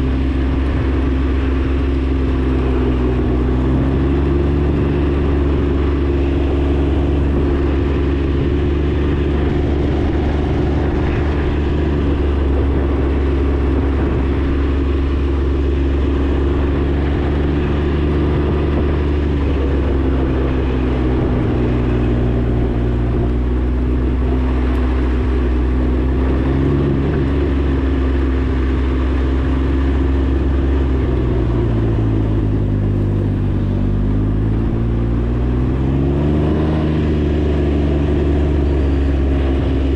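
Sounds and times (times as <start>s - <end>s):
three-cylinder engine cruising: 0.0s - 39.9s.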